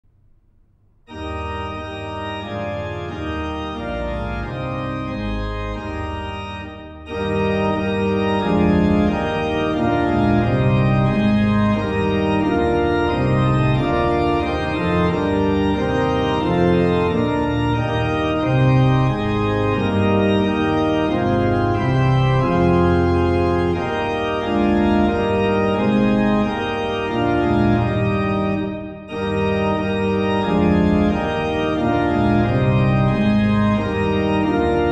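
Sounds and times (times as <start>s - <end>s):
organ playing hymn chords: 1.0s - 34.9s.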